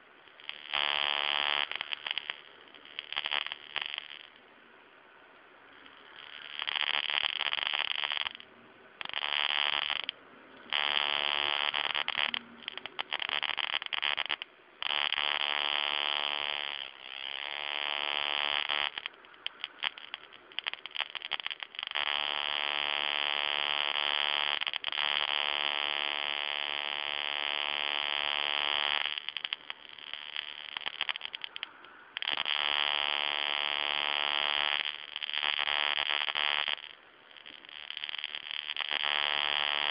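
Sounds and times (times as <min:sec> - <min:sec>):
stun gun electric buzz: 0:00.4 - 0:02.4, 0:03.0 - 0:04.3, 0:06.3 - 0:08.4, 0:09.0 - 0:10.1, 0:10.7 - 0:31.6, 0:32.2 - 0:37.0, 0:37.8 - 0:39.9.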